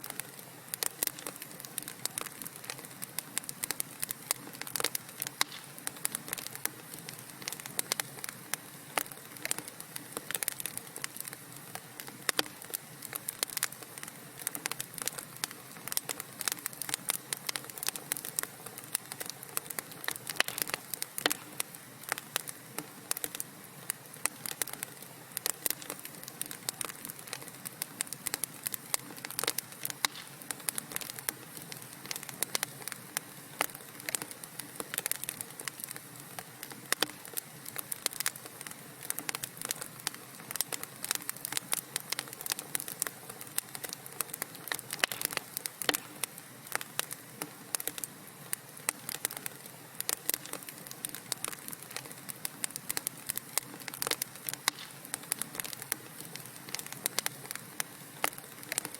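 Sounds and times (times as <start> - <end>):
low steady hiss: 0.0 - 58.9
wood fire crackling and popping: 0.0 - 58.9.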